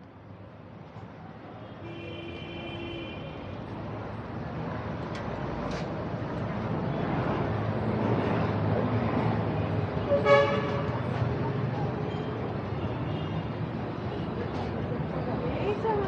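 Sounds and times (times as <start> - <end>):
street traffic road noise: 0.0 - 16.0.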